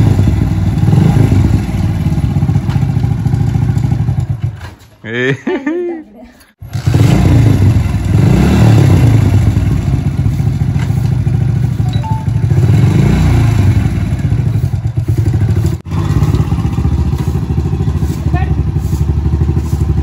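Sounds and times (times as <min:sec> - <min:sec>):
motorcycle engine running: 0:00.0 - 0:04.6, 0:06.6 - 0:20.0.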